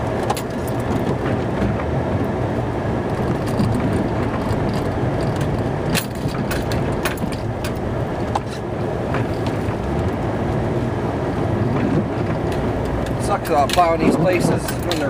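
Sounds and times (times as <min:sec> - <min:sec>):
sharp clicks and knocks: 0:00.0 - 0:02.3, 0:03.1 - 0:10.2, 0:11.6 - 0:15.0
road rumble: 0:00.0 - 0:15.0
truck engine: 0:00.0 - 0:15.0.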